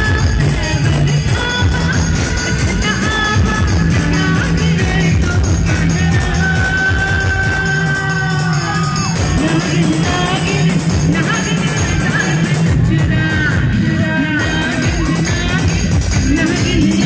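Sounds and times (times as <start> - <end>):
live band music over pa: 0.0 - 17.0
person singing: 0.0 - 17.0.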